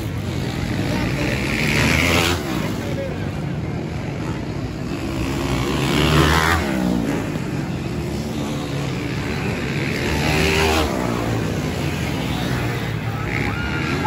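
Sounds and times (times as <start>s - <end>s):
dirt bike engines revving: 0.0s - 14.0s
dirt bikes passing by: 0.0s - 14.0s.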